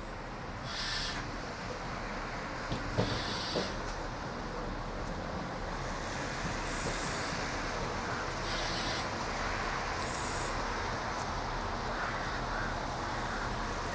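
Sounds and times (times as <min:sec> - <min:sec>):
diesel railcar engine and wheels: 0:00.0 - 0:13.9.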